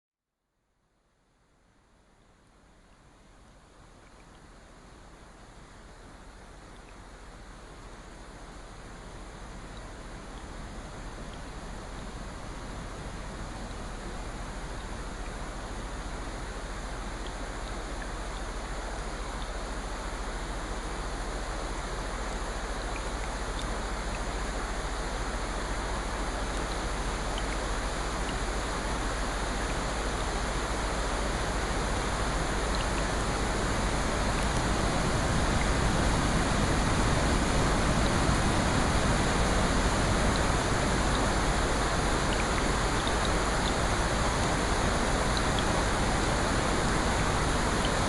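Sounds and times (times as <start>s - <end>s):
steady rain: 0.5s - 48.0s
faint drips: 2.2s - 48.0s.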